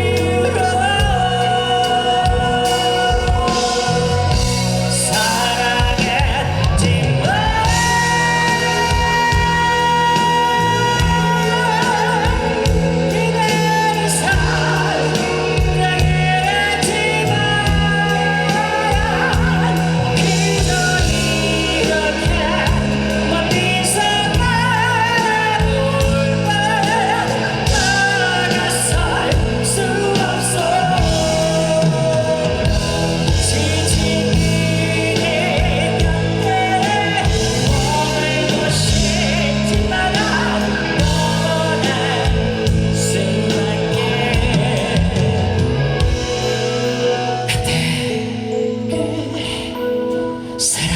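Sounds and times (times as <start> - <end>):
lead melody with vibrato: 0.0 - 50.9
live rock band: 0.0 - 50.9
person singing: 0.0 - 50.9.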